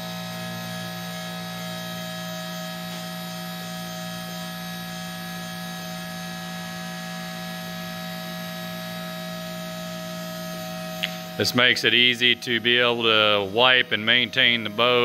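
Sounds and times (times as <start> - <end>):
pump motor humming: 0.0 - 15.0.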